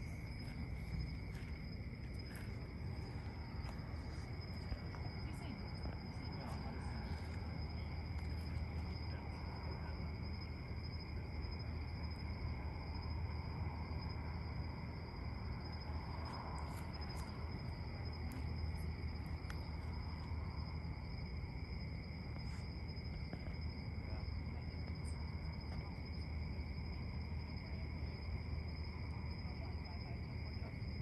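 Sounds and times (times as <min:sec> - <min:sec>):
crickets trilling: 0:00.0 - 0:31.0
low steady hum: 0:00.0 - 0:31.0.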